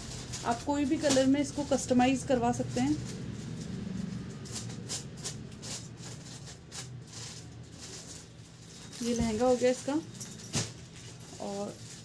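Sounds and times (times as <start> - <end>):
sequin fabric rustling: 0.0 - 12.0.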